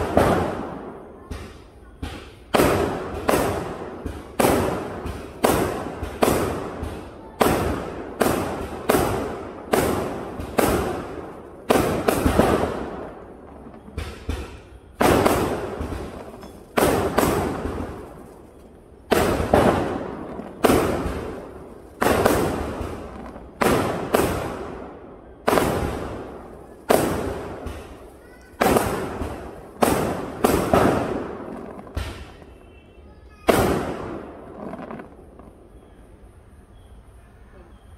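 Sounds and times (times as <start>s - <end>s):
firework shells bursting: 0.0s - 32.6s.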